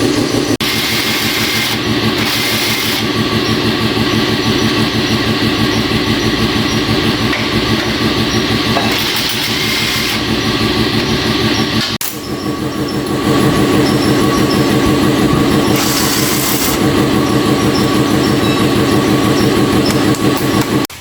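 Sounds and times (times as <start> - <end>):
machine rattling: 0.0 - 21.0.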